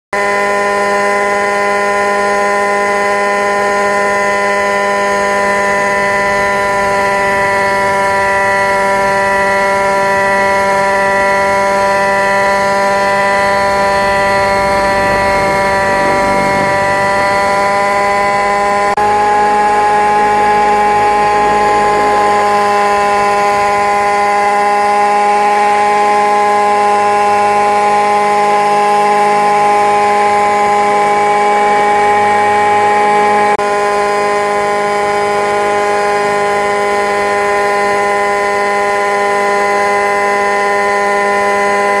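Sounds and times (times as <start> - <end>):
model helicopter engine whining: 0.1 - 42.0.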